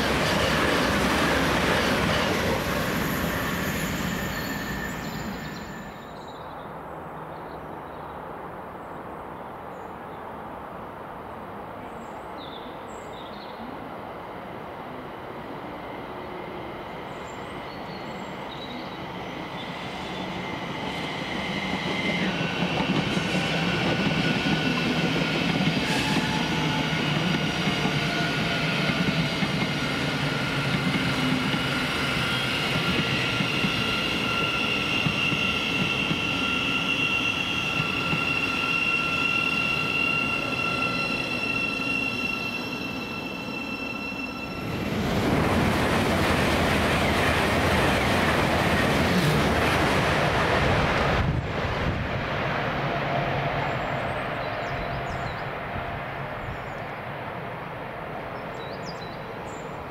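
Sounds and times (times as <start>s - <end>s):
train rumbling past: 0.0s - 6.4s, 11.5s - 59.9s
high train whines: 0.0s - 7.4s, 8.2s - 59.9s.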